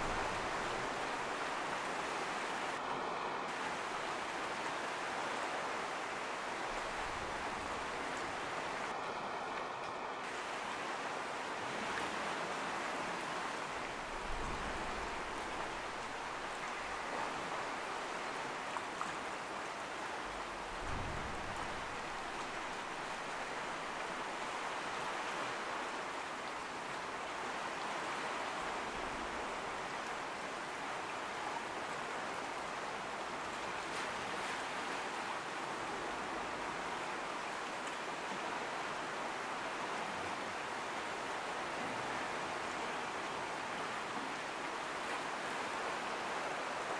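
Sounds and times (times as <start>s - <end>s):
sea surf against rocks: 0.0s - 9.0s, 10.2s - 46.9s.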